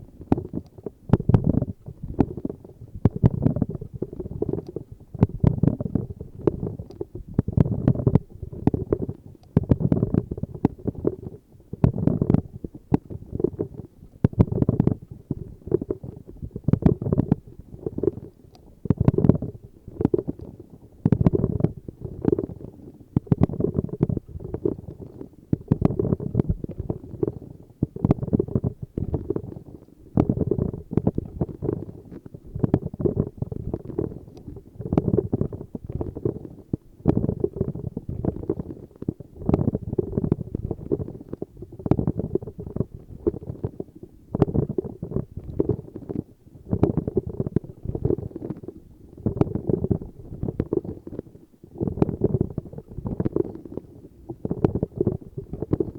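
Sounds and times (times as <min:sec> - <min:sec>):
muffled tapping and scratching: 0:00.2 - 0:55.9.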